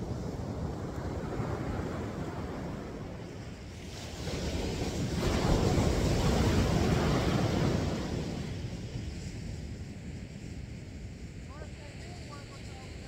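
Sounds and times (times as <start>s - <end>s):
wave breaking on a beach: 0.0s - 13.0s
wind rumbling on microphone: 0.0s - 13.0s.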